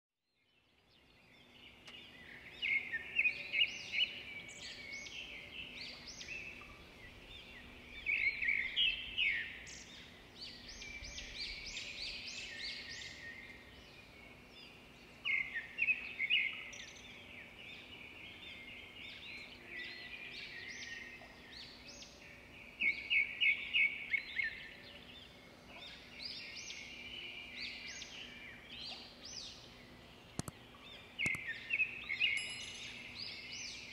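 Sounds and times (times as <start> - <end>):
birds chirping and twittering: 0.3 - 33.9.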